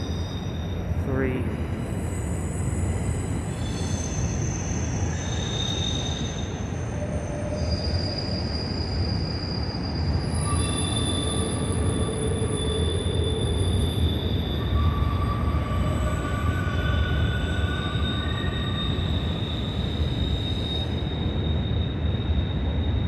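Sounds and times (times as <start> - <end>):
low rumble of train cars: 0.0 - 23.0
train wheels squealing: 0.0 - 23.0.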